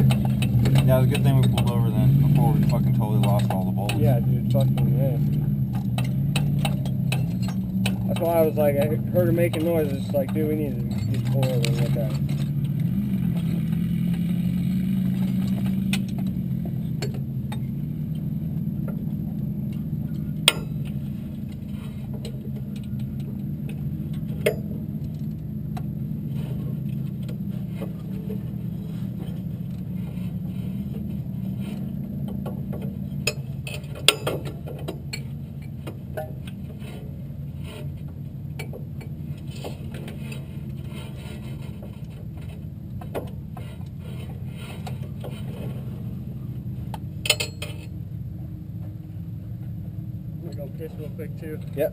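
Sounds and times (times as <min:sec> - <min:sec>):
vehicle engine droning: 0:00.0 - 0:51.9.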